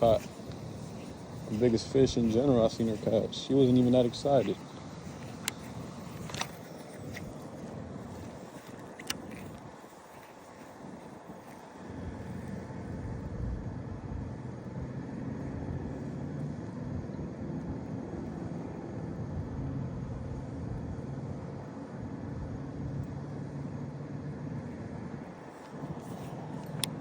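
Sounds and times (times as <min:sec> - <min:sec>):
engine humming: 0:00.0 - 0:27.0
outdoor noise: 0:00.0 - 0:27.0.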